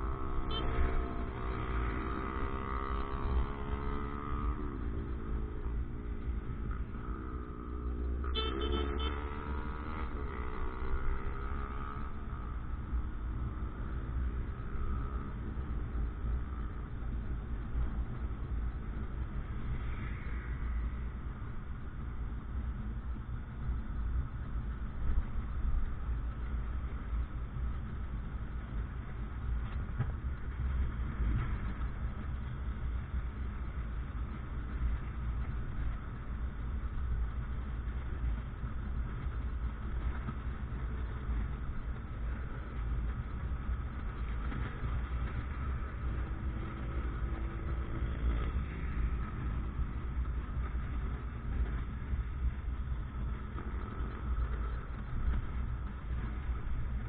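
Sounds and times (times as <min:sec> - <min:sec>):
motorcycle engine rumbling: 0:00.0 - 0:57.0
street traffic noise: 0:00.0 - 0:57.0.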